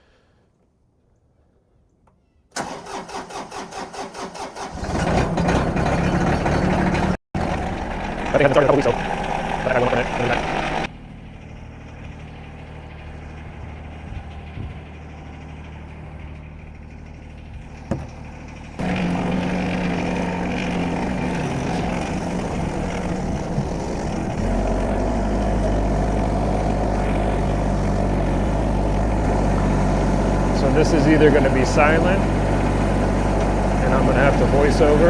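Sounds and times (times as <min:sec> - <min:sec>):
tractor engine running: 0:02.6 - 0:35.0.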